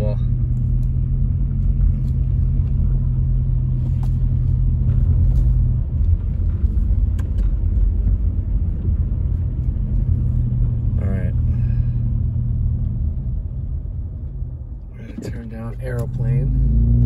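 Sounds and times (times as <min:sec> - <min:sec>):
steady low hum: 0:00.0 - 0:17.0
tyre and engine rumble: 0:00.0 - 0:17.0.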